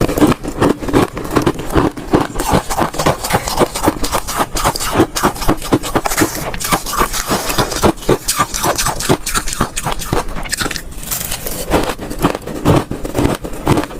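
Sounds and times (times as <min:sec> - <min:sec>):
ice cubes crunched by teeth: 0:00.0 - 0:13.9.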